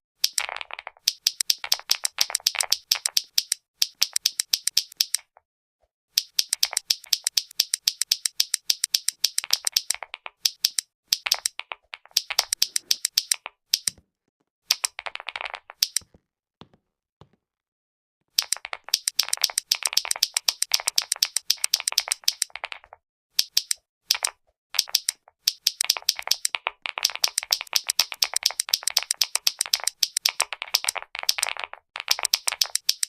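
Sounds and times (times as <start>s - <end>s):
clicky keyboard keys: 0.2s - 5.4s, 6.2s - 14.0s, 14.7s - 16.1s, 18.3s - 33.0s.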